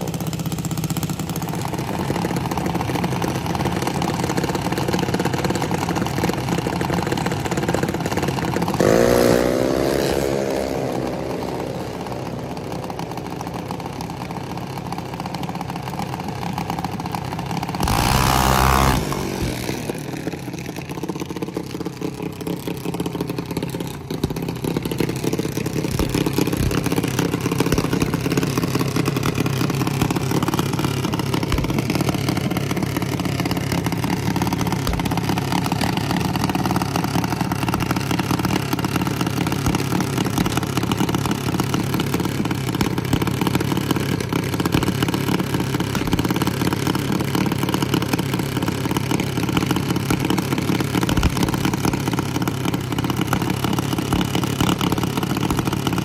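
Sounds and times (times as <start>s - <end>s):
single-cylinder engine idling: 0.0s - 9.2s, 10.8s - 56.0s.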